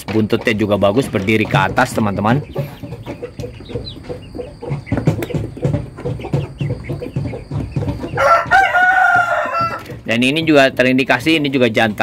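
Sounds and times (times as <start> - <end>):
young chickens clucking and peeping: 0.0 - 12.0.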